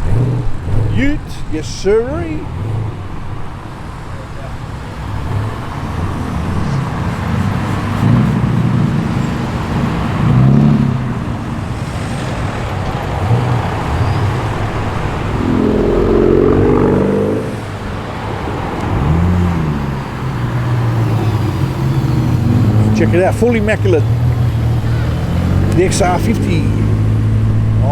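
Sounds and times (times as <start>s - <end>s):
car engines revving: 0.0s - 27.9s
traffic hum: 0.0s - 27.9s.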